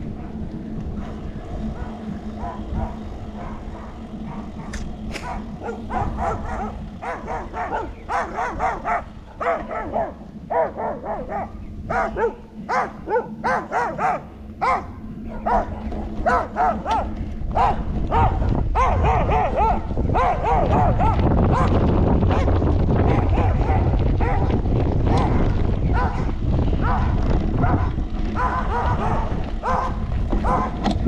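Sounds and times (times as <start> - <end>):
dog barking: 1.0 - 30.8.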